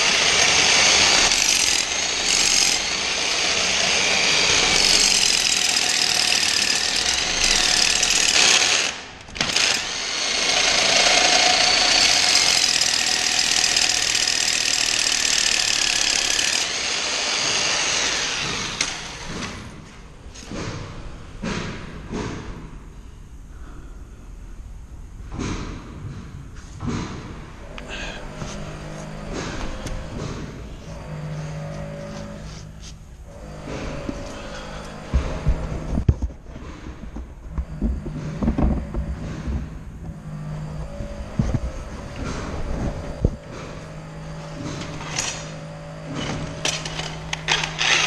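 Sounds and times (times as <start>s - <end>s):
loud machine running: 0.0s - 19.7s, 27.6s - 36.1s, 37.5s - 48.0s.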